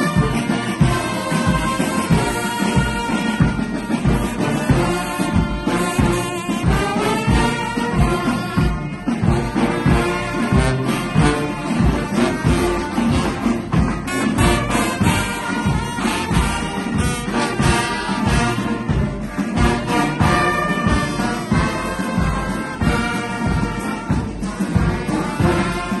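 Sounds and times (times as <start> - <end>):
marching brass band playing: 0.0 - 26.0.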